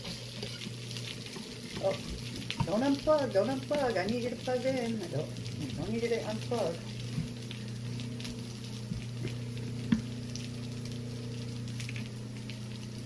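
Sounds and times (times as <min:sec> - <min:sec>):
pancakes sizzling in a skillet: 0:00.0 - 0:13.0
steady low hum: 0:00.0 - 0:13.0.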